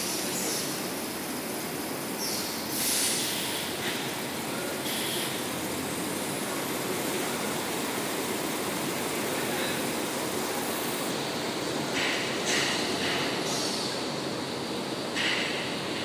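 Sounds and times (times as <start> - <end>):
loud hiss: 0.0 - 16.0.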